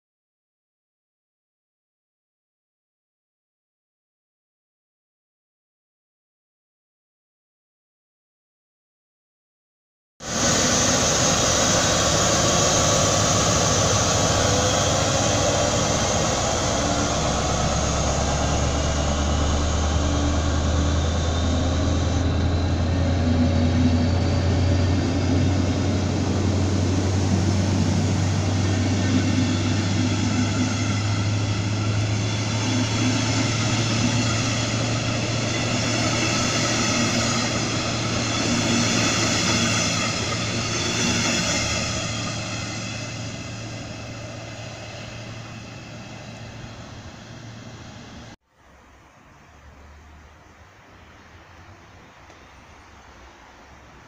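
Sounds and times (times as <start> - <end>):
diesel locomotive drone: 10.2 - 54.0.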